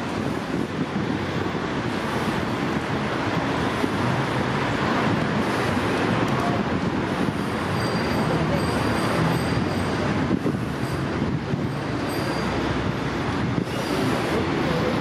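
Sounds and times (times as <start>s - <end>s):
bicycle tyres rolling on asphalt: 0.0s - 15.0s
wind on microphone: 0.0s - 15.0s.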